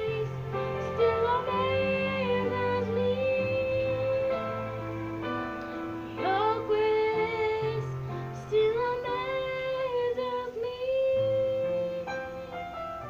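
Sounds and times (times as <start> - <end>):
woman singing worship song: 0.0 - 4.8, 6.1 - 12.5
sustained instrumental backing: 0.0 - 13.0.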